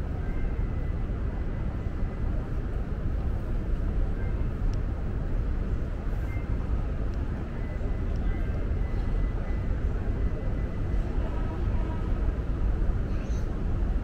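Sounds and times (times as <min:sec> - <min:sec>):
low rumble of station ambience: 0:00.0 - 0:14.0.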